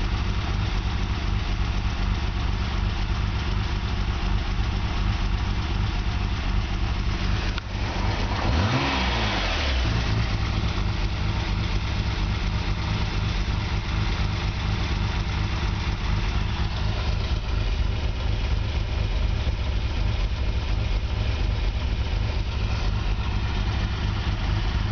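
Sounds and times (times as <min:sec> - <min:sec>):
car engine idling unevenly: 0:00.0 - 0:24.9.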